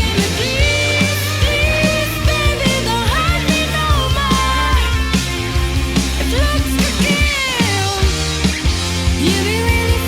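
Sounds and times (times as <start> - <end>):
rock music with drums and bass: 0.0 - 10.0.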